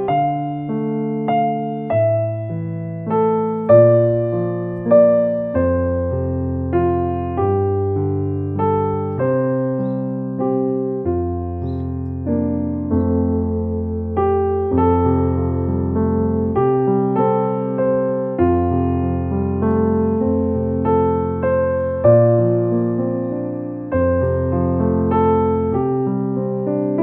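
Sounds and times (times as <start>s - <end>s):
electric piano chords: 0.0s - 27.0s.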